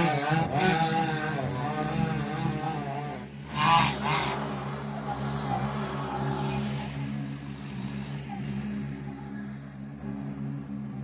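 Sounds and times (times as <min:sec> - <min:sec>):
chainsaw engine running: 0:00.0 - 0:09.0.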